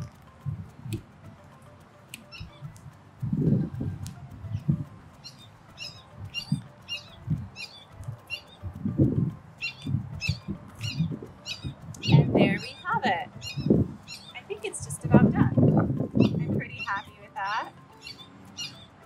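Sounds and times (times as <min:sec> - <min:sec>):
leaves and twigs rustling: 0:00.0 - 0:16.8
small bird chirping: 0:02.2 - 0:03.6, 0:04.5 - 0:19.0.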